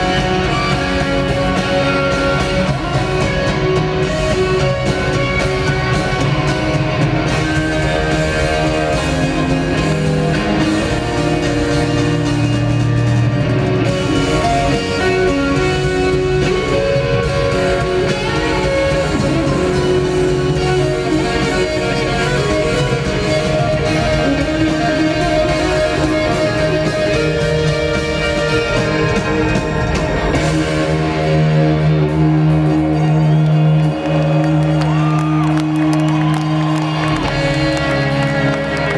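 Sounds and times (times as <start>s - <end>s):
electric guitar held notes: 0.0s - 38.9s
rock band playing: 0.0s - 38.9s.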